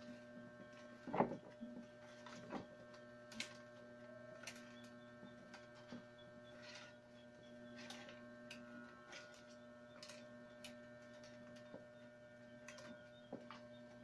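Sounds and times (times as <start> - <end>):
electrical hum: 0.0 - 14.0
wicker ticks and rustles: 0.0 - 14.0.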